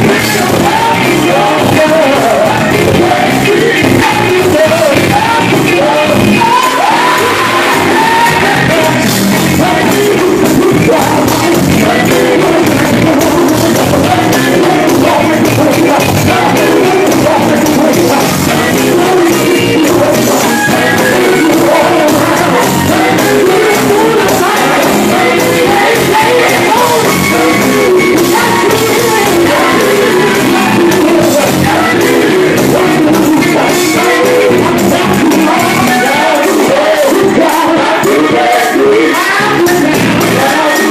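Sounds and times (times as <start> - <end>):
gospel band with drums: 0.0 - 40.9
man singing into microphone: 0.0 - 40.9.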